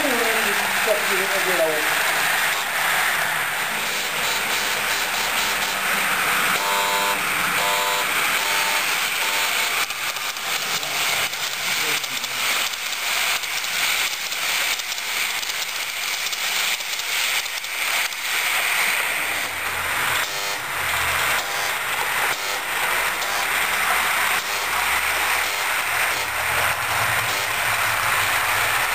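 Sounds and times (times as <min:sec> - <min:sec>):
model train rolling on track: 0:00.0 - 0:28.9.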